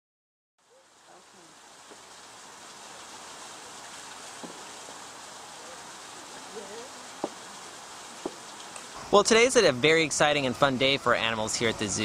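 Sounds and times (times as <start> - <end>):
outdoor background hiss: 0.6 - 12.0.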